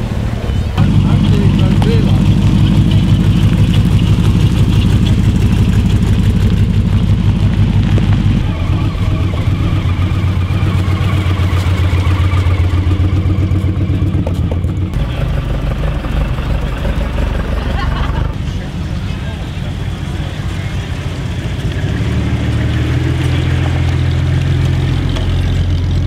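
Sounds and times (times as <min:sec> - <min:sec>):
hot rod engine pulsing: 0:00.0 - 0:26.0
motorcycle trike engine running: 0:00.0 - 0:26.0
sports car passing: 0:00.0 - 0:26.0.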